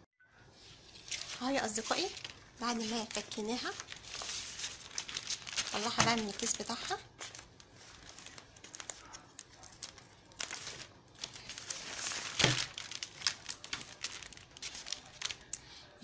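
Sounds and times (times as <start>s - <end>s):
plastic bag crinkling: 0.9s - 15.6s.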